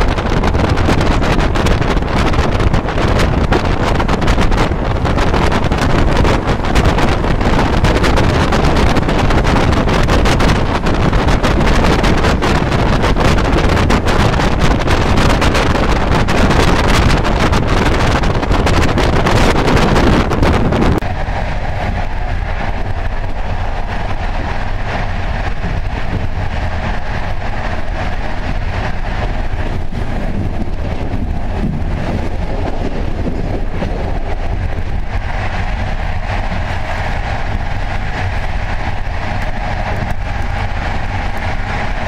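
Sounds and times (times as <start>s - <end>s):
dull train rumble: 0.0s - 42.0s
rail clicks: 0.0s - 42.0s
train wind rush and running noise: 0.0s - 42.0s.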